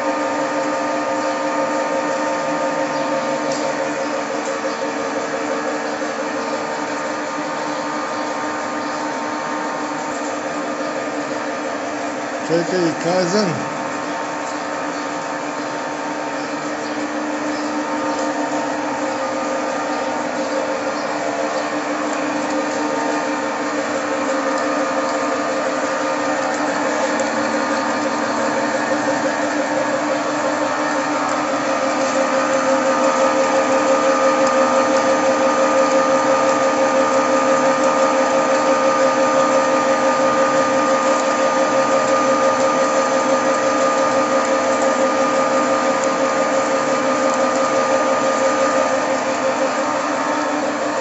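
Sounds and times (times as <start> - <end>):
constant machine whine: 0.0 - 51.0
oil press machine hum: 0.0 - 51.0.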